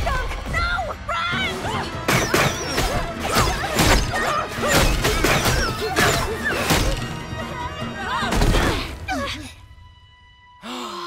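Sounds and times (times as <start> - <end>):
dramatic background music: 0.0 - 11.0.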